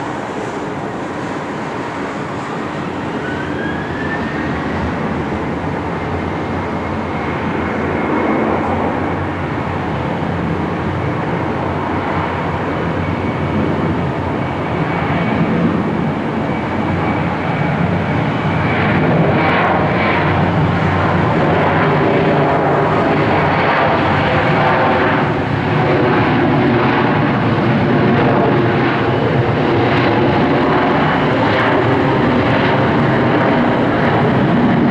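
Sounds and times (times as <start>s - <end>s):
airliner engines roaring: 0.0s - 34.9s.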